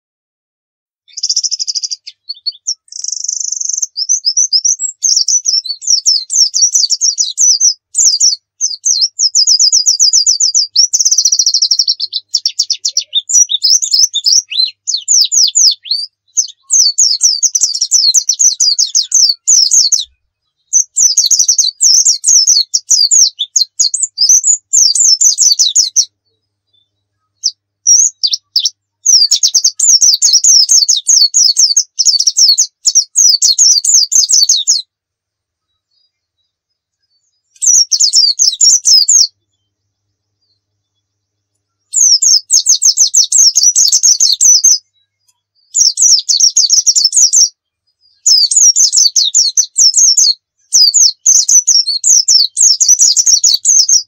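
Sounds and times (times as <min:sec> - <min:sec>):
bird singing rapid chirps and trills: 0:01.0 - 0:35.0, 0:35.6 - 0:54.0.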